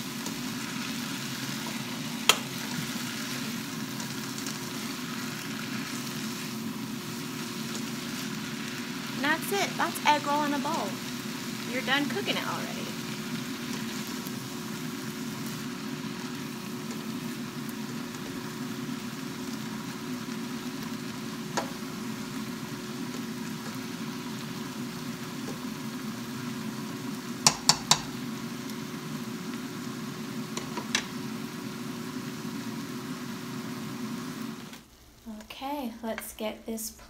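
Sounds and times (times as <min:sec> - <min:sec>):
food sizzling in a frying pan: 0:00.0 - 0:36.9.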